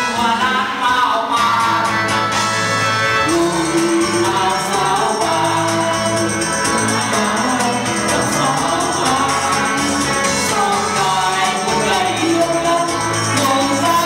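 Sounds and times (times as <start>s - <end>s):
person singing: 0.0s - 2.3s, 3.2s - 14.0s
live band dance music: 0.0s - 14.0s.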